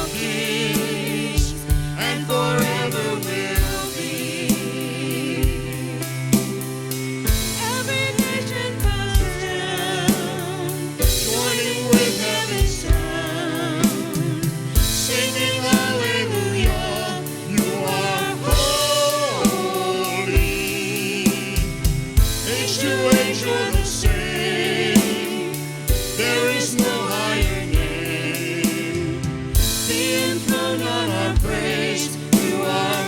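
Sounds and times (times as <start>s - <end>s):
voices singing held melody: 0.0s - 6.6s, 7.6s - 33.0s
praise band playing: 0.0s - 33.0s.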